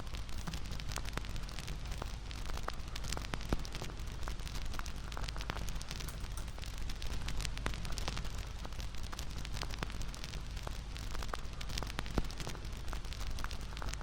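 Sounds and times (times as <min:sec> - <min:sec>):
fire rumble and hiss: 0:00.0 - 0:14.0.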